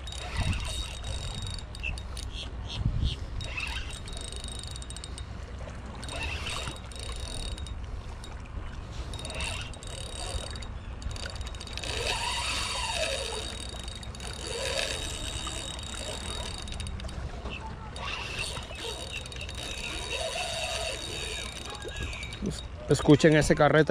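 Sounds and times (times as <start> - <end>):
fishing reel gears whirring: 0.0 - 23.4.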